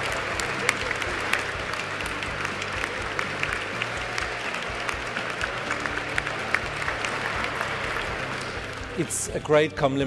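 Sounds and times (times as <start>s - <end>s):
large audience applauding: 0.0s - 9.6s
music playing: 0.0s - 10.0s.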